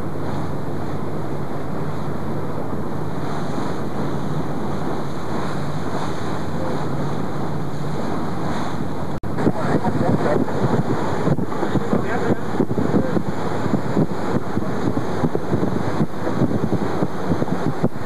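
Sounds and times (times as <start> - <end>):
boat engine drone: 0.0 - 18.0
sea water rushing: 0.0 - 18.0
wind on microphone: 0.0 - 18.0.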